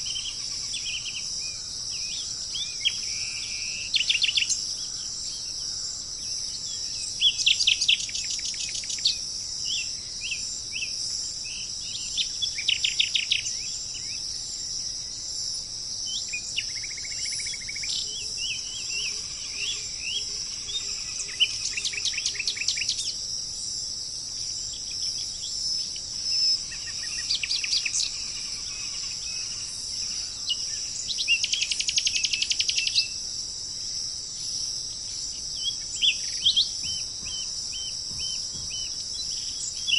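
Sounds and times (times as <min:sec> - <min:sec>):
high-pitched hiss: 0:00.0 - 0:39.9
songbirds singing trilled phrases: 0:00.0 - 0:39.9.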